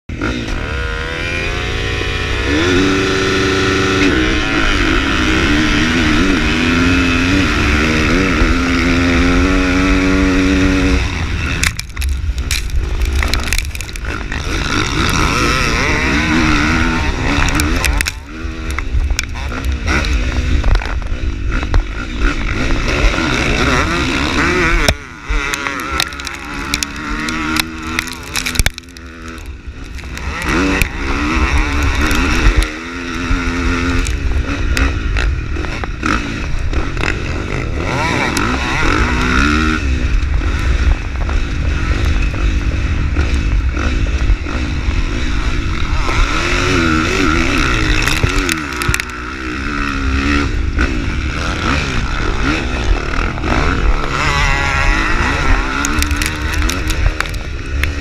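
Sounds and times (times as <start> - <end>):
motocross bike engine revving: 0.1 - 58.0.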